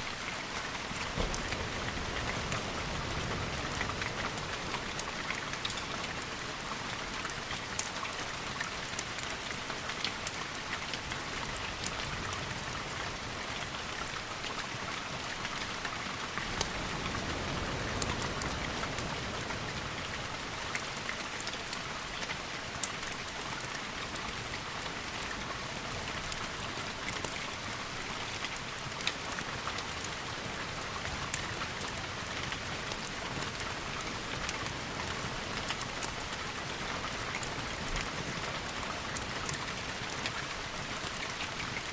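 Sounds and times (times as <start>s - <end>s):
steady rain: 0.0s - 41.9s
sharp raindrop ticks: 0.2s - 41.9s.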